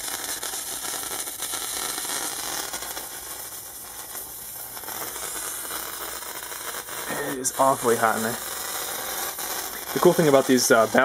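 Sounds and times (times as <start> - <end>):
electric arc hissing: 0.0 - 11.0.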